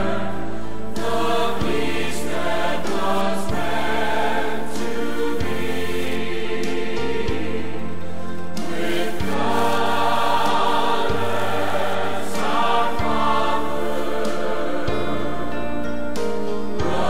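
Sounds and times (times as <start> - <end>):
choir singing a hymn: 0.0 - 17.0
instrumental accompaniment: 0.0 - 17.0.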